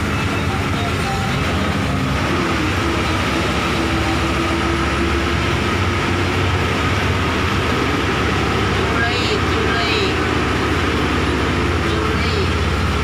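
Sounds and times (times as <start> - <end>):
bus engine running: 0.0 - 13.0
engine whine: 0.0 - 13.0
road and wind noise: 0.0 - 13.0.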